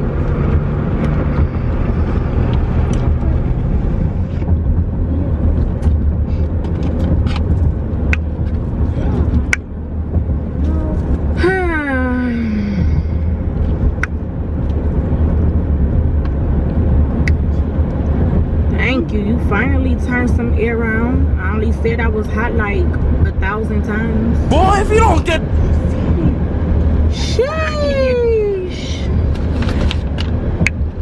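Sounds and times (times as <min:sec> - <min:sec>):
road rumble inside car: 0:00.0 - 0:31.0.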